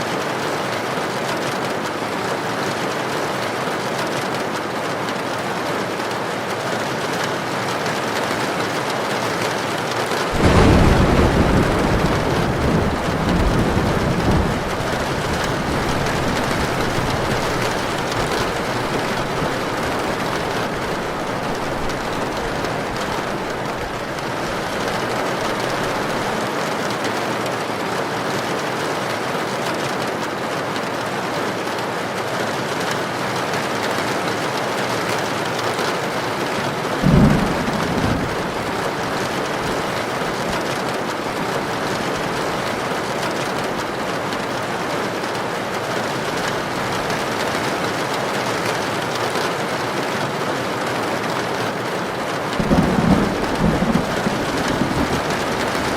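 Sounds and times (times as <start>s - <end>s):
heavy rain pouring: 0.0s - 55.9s
wind: 0.0s - 55.9s.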